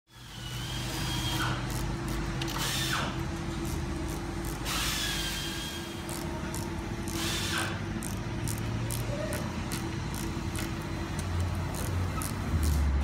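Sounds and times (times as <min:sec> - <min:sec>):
power tool whirring: 0:00.1 - 0:13.0
steady motor hum: 0:00.1 - 0:13.0.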